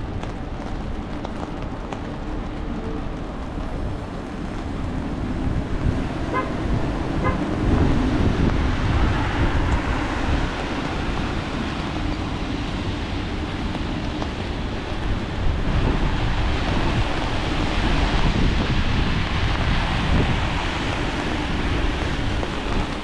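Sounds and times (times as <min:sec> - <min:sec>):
engines rumbling: 0:00.0 - 0:23.0
tyres hissing on wet road: 0:00.0 - 0:23.0.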